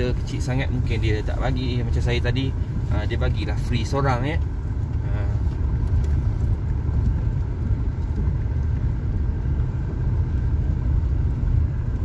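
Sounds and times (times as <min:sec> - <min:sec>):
car interior engine rumble: 0:00.0 - 0:12.0.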